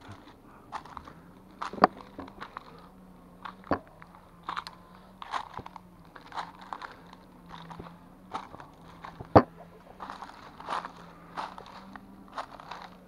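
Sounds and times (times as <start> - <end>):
faint low hum: 0.0 - 13.0
footsteps crunching through leaves: 0.0 - 13.0.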